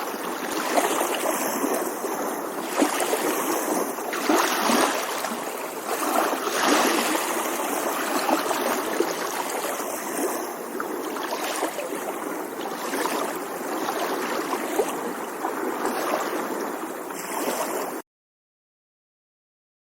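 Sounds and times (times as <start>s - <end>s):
small waves lapping: 0.0s - 18.0s.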